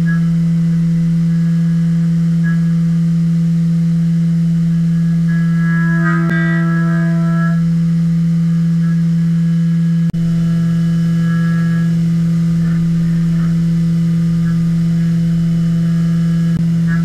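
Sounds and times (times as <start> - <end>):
milling machine loud low hum: 0.0 - 17.0.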